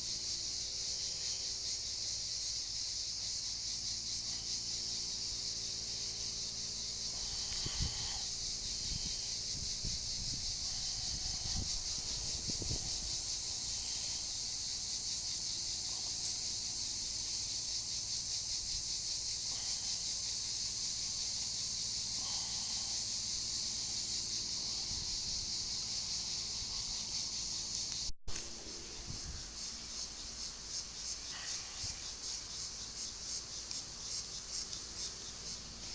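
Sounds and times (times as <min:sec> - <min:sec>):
cicadas buzzing: 0:00.0 - 0:35.9.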